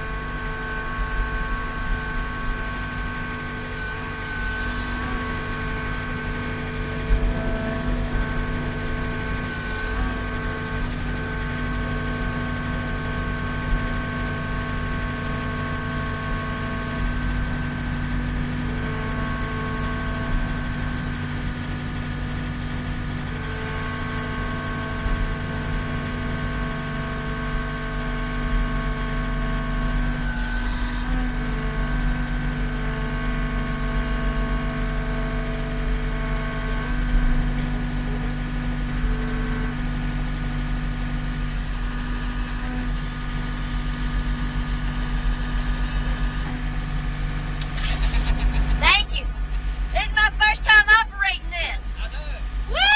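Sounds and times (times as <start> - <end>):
heavy vehicle engine running: 0.0 - 52.9.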